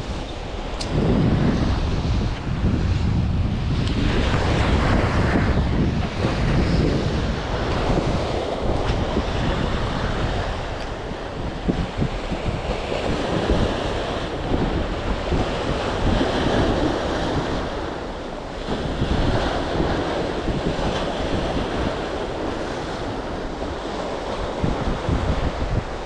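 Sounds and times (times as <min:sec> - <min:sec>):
sea waves: 0:00.0 - 0:26.0
wind gusting on microphone: 0:00.0 - 0:26.0.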